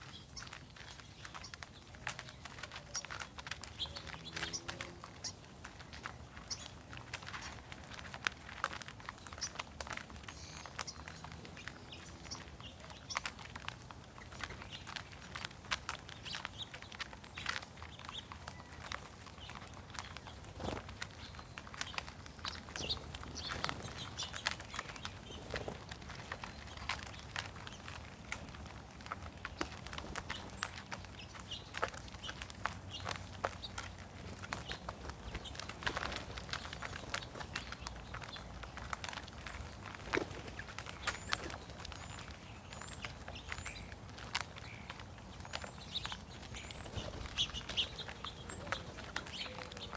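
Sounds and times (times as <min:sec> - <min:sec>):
birds tapping and rustling: 0:00.0 - 0:49.9
small birds chirping: 0:00.0 - 0:49.9.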